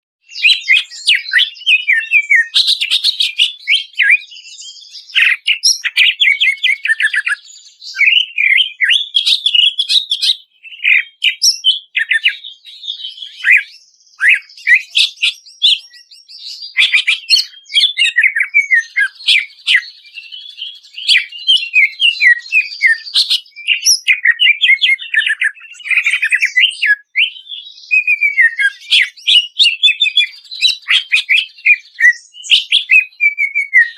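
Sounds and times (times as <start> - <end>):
bird singing whistled notes and trills: 0.2 - 33.9.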